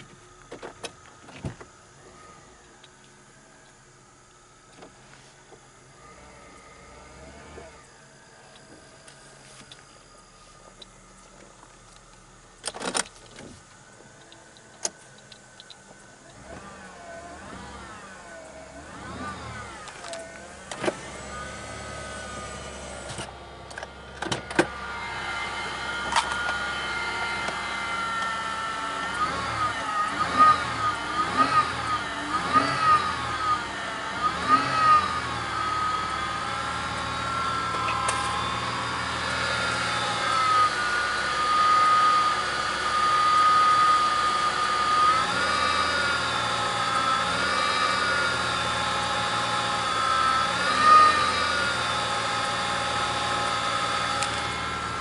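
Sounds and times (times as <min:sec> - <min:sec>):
car engine running: 0:00.0 - 0:55.0
rising and falling whine: 0:00.0 - 0:55.0.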